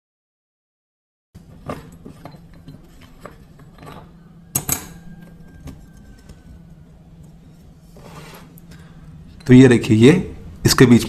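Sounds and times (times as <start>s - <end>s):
steady low hum: 1.4s - 11.0s.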